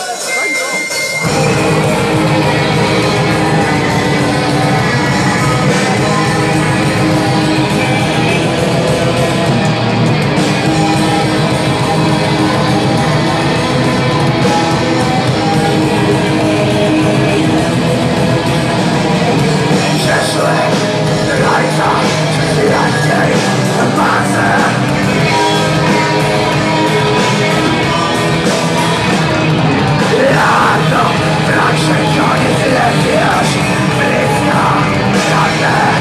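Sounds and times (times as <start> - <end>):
metal band playing live: 0.0 - 36.0.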